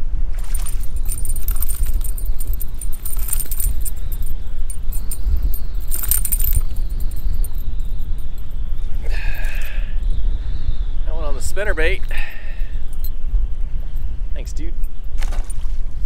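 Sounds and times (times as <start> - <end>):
wind buffeting microphone: 0.0 - 16.0
metallic lure jingling: 0.3 - 10.2, 11.8 - 15.8.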